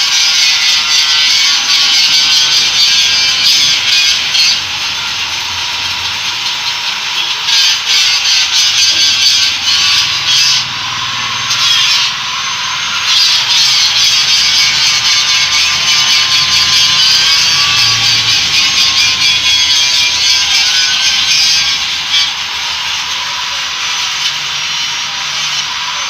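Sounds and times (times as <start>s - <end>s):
power grinder on steel: 0.0s - 26.0s.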